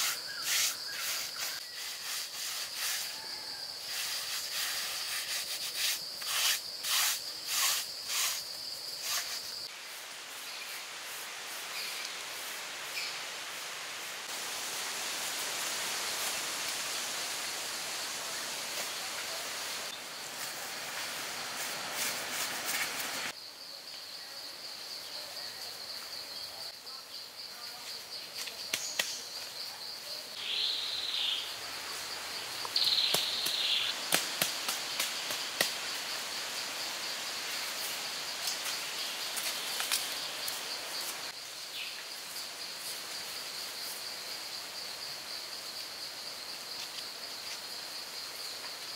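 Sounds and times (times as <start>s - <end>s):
rustling hiss: 0.0s - 23.3s, 30.3s - 48.9s
high insect drone: 0.0s - 48.9s.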